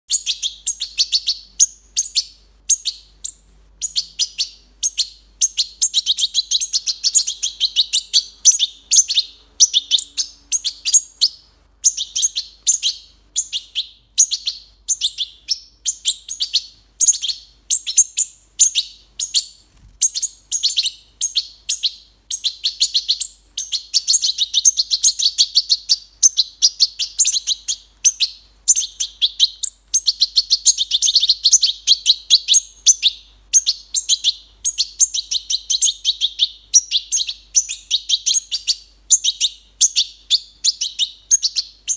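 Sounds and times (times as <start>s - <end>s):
fledgling birds begging chirps: 0.1s - 41.9s.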